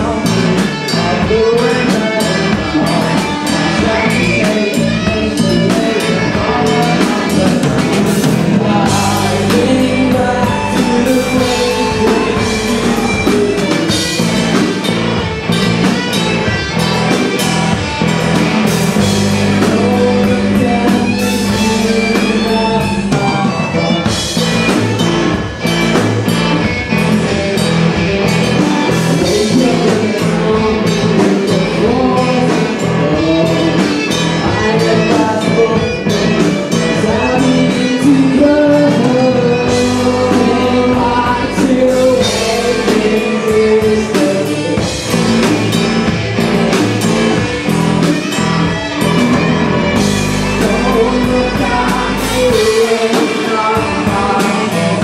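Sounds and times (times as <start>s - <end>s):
bass guitar: 0.0s - 55.0s
drum kit: 0.0s - 55.0s
electric guitars: 0.0s - 55.0s
lead singer singing: 0.0s - 55.0s.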